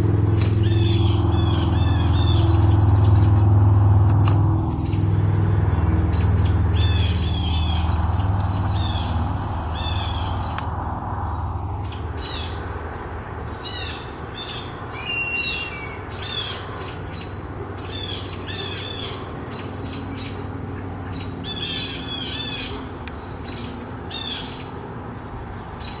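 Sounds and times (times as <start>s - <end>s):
birds harsh scolding calls: 0.3s - 3.6s, 4.7s - 10.7s, 11.8s - 26.0s.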